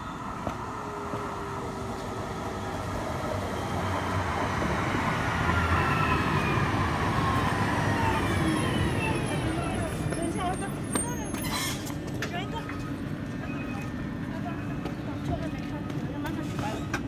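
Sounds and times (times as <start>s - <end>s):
electric tram slowing to a stop: 0.0s - 17.0s.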